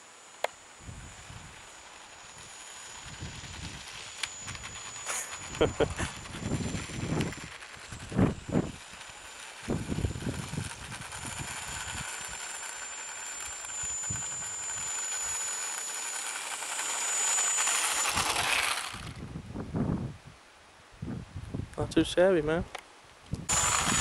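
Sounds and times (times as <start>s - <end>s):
model airplane motor whining: 0.0s - 19.4s, 23.4s - 24.0s.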